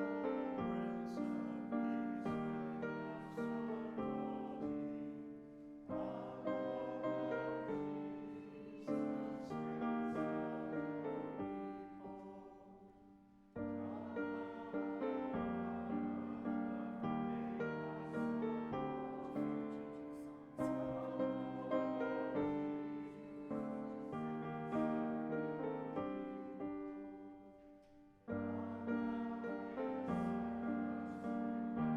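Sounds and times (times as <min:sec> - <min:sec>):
slow gentle piano piece: 0:00.0 - 0:31.9.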